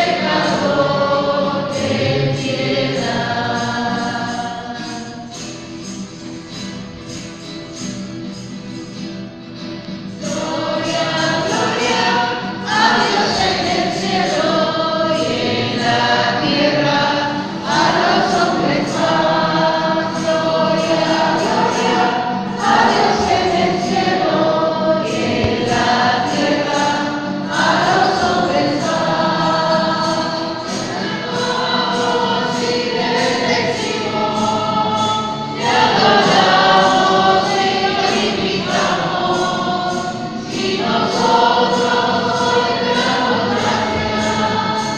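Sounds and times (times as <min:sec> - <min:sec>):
choir singing a hymn: 0:00.0 - 0:07.5, 0:09.9 - 0:44.9.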